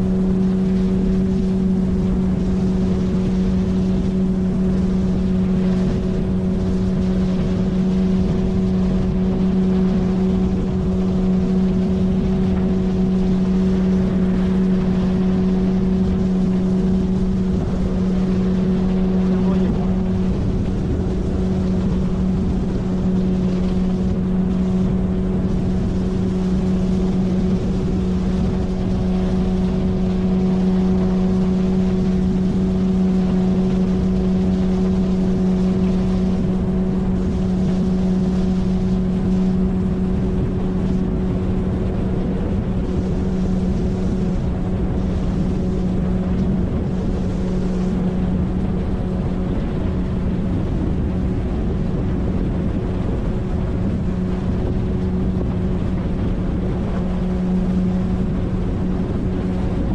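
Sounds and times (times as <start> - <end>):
outboard motor running: 0.0 - 59.9
wind and water hiss: 0.0 - 59.9.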